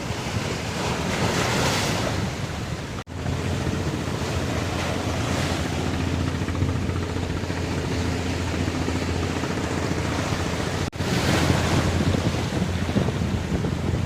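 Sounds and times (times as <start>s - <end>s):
surf on rocky shore: 0.0s - 14.0s
wind buffeting microphone: 0.0s - 14.0s.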